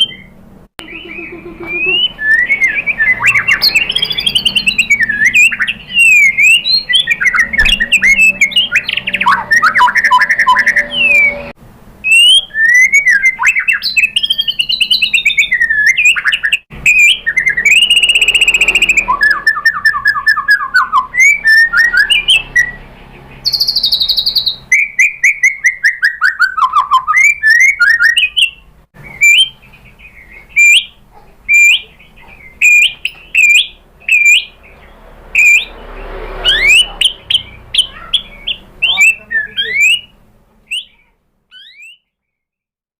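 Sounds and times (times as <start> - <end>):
songbird singing whistled trills: 0.0 - 22.8, 23.4 - 35.8, 36.4 - 42.1.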